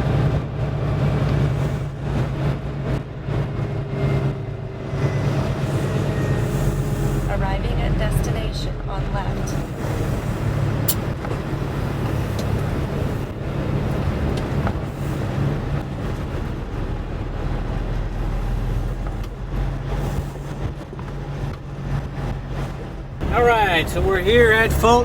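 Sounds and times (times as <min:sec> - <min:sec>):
road noise: 0:00.0 - 0:25.0
truck diesel engine running: 0:00.0 - 0:25.0.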